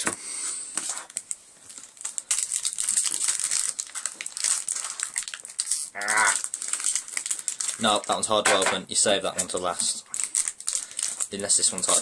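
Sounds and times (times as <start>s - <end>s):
foil wrapper crinkling: 0.8s - 12.0s.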